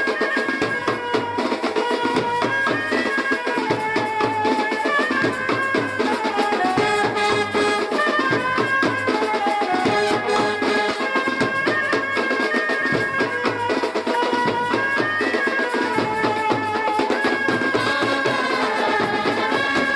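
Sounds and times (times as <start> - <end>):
wind instrument melody: 0.0 - 19.9
fast dense drumming: 0.4 - 19.9.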